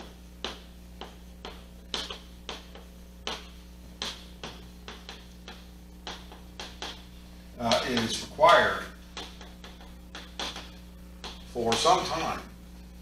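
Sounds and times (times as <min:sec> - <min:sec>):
chalk tapping on a blackboard: 0:00.0 - 0:07.1, 0:07.7 - 0:08.4, 0:09.1 - 0:12.2
steady low hum: 0:00.0 - 0:13.0.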